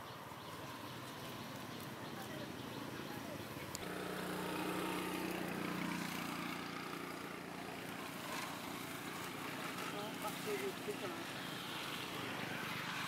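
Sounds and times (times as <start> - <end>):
motor engine humming: 1.0 - 12.8.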